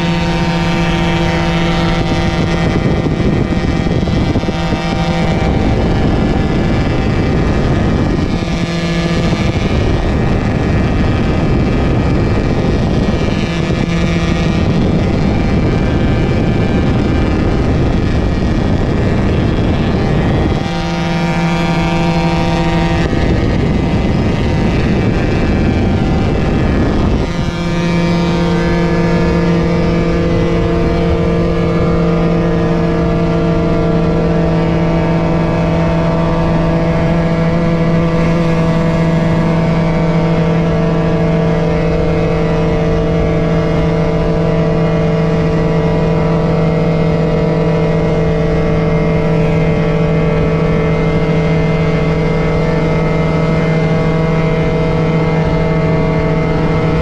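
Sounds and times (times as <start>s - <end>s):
motorcycle engine at high revs: 0.0s - 57.0s
wind rushing: 0.0s - 57.0s.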